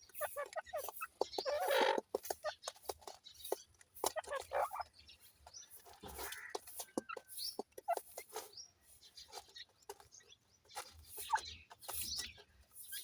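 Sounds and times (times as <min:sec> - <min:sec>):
bird chicks calling: 0:00.0 - 0:13.0.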